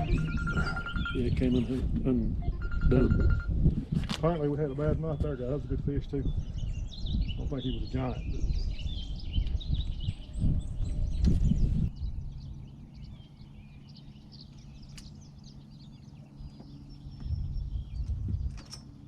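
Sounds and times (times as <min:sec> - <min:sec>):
birds chirping and singing: 0:00.0 - 0:03.4, 0:04.2 - 0:19.0
steady low hum: 0:00.0 - 0:19.0.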